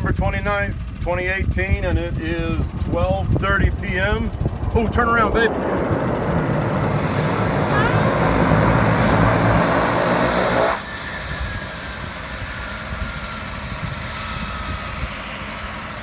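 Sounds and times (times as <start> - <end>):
floatplane engine and propeller: 0.0 - 16.0
high whine: 0.9 - 16.0.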